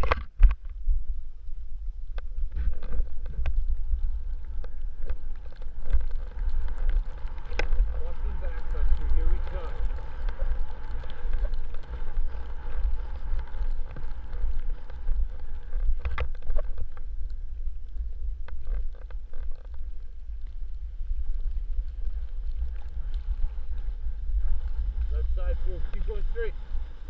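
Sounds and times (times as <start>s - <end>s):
faint clicks: 0.0s - 27.0s
wind buffeting microphone: 0.0s - 27.0s.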